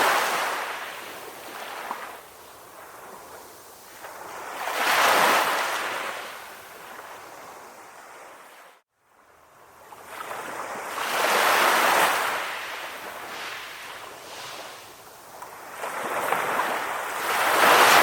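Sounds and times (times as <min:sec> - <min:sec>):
sea waves breaking on beach: 0:00.0 - 0:08.8, 0:09.8 - 0:18.0.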